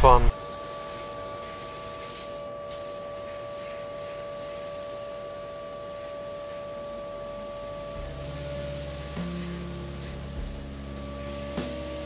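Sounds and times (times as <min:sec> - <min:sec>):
laser cutter hiss: 0:00.3 - 0:12.0
laser cutter humming: 0:00.3 - 0:12.0.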